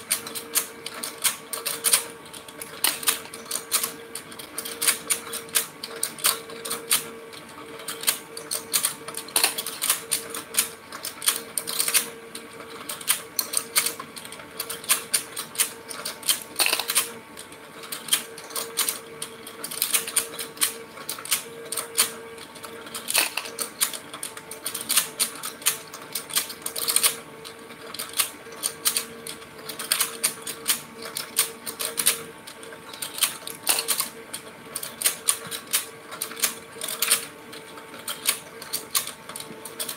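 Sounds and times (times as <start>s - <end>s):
steady motor hum: 0.0s - 39.9s
toy mechanism clattering clicks: 0.0s - 39.9s.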